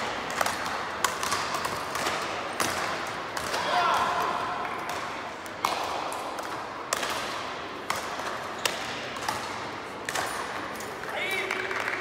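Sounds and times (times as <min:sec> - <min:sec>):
rackets hitting ball: 0:00.0 - 0:12.0.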